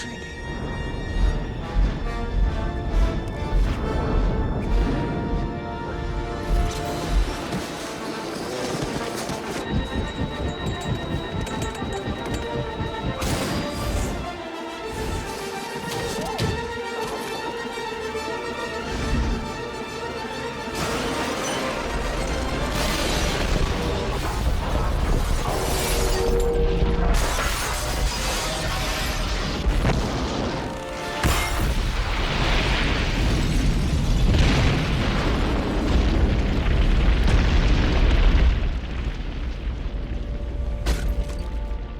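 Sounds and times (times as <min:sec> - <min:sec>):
rumbling booms and explosions: 0:00.0 - 0:15.6, 0:18.7 - 0:41.9
dramatic orchestral score: 0:00.0 - 0:41.9.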